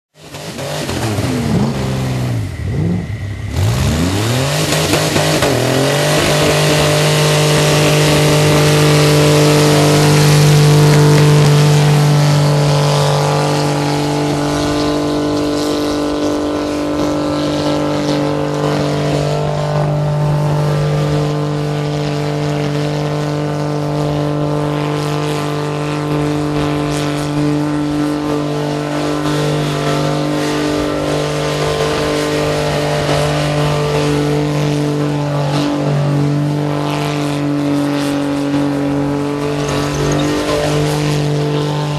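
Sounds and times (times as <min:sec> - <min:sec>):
engine revving: 0:00.2 - 0:41.9.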